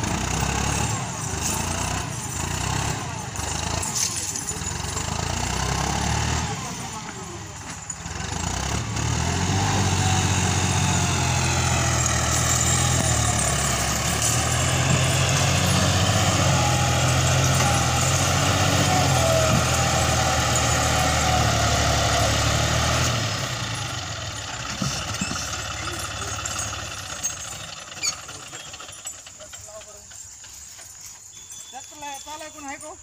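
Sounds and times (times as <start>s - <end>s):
diesel tractor engine labouring: 0.0s - 33.0s.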